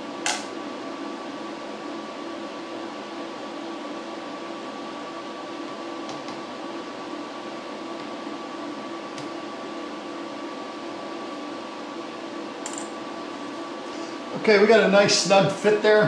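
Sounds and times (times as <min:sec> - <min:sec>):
idle shop machinery hum: 0:00.0 - 0:16.0.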